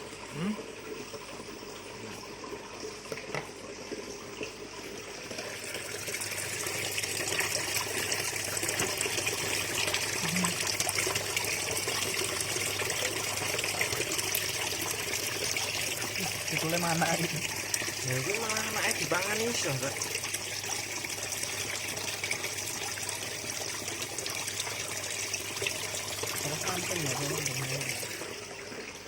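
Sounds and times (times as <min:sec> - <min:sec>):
water running and splashing: 0:01.3 - 0:29.0.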